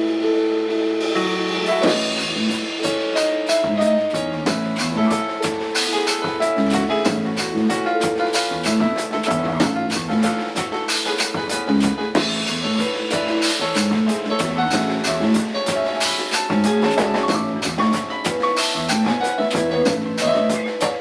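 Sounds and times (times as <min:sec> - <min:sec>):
bass: 0:00.0 - 0:02.8, 0:03.4 - 0:05.6, 0:06.3 - 0:10.6, 0:11.3 - 0:15.6, 0:16.3 - 0:20.8
keyboard notes: 0:00.0 - 0:21.0
drum kit beat: 0:01.0 - 0:21.0.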